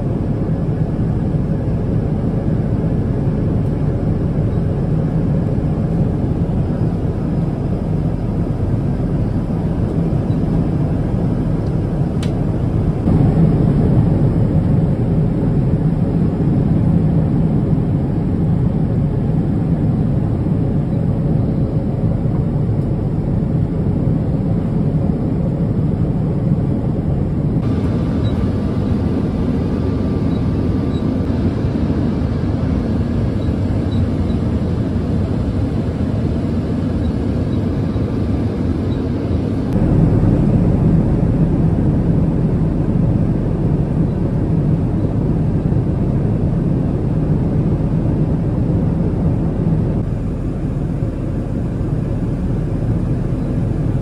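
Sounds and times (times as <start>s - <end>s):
airplane cabin engine rush: 0.0s - 54.0s.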